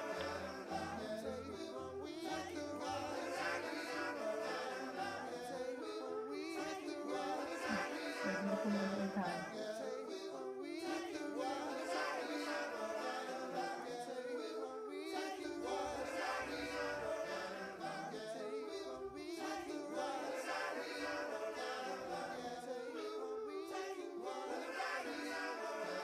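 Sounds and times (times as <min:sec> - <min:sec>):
several voices singing: 0:00.0 - 0:26.0.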